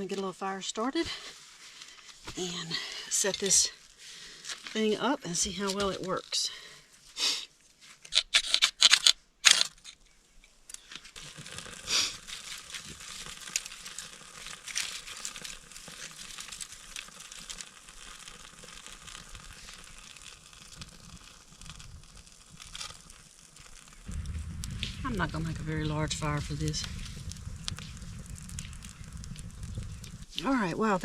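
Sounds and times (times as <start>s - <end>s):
fire crackling: 0.0s - 7.2s, 9.8s - 31.0s
tinder crinkling: 0.0s - 31.0s.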